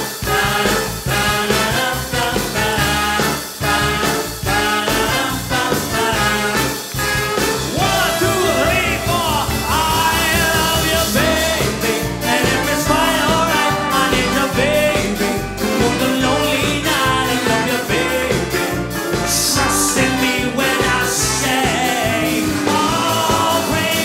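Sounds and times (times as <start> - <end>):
swing band playing: 0.0 - 24.0.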